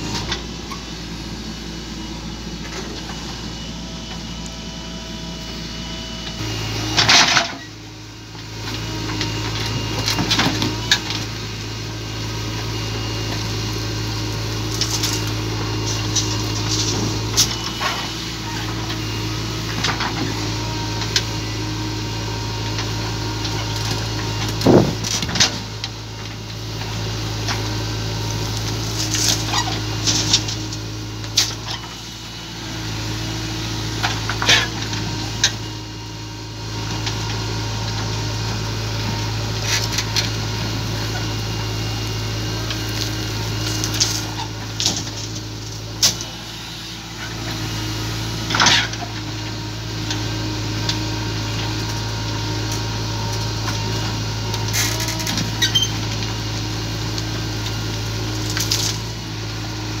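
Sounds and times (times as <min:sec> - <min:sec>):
backhoe diesel engine running: 0:00.0 - 1:00.0.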